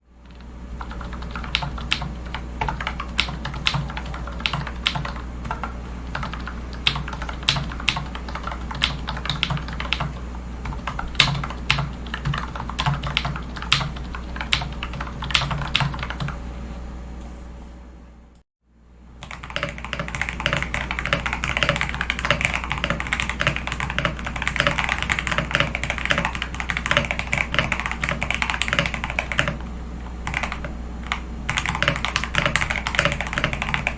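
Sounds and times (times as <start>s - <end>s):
steady low hum: 0.0s - 33.9s
typing on computer keyboard: 0.2s - 16.4s, 19.2s - 29.6s, 30.2s - 33.9s.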